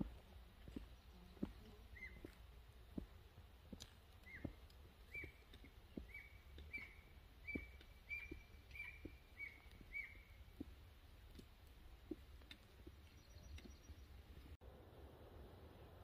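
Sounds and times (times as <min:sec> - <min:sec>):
footsteps on a trail: 0:00.0 - 0:14.6.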